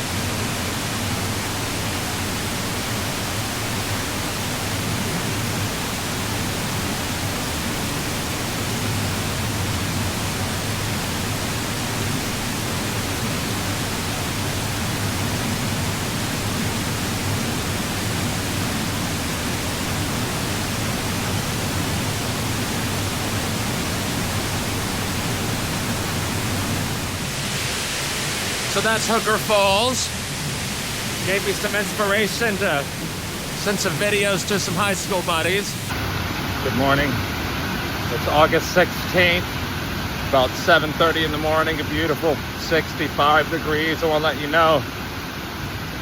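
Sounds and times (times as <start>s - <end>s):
waterfall roaring: 0.0s - 38.6s.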